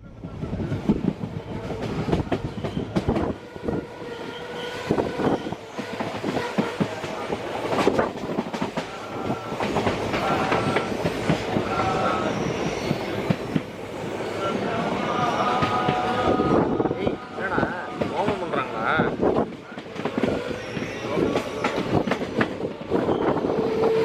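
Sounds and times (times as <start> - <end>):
train rolling rumble: 0.0 - 24.0.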